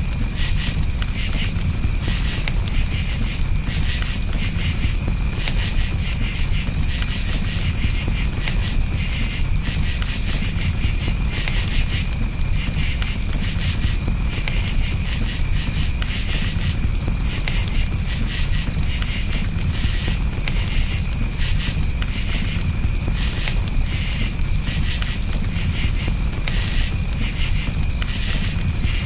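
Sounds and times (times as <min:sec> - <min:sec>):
burning wood crackles: 0:00.0 - 0:29.0
campfire rumble: 0:00.0 - 0:29.0
crickets chirping: 0:00.0 - 0:29.0.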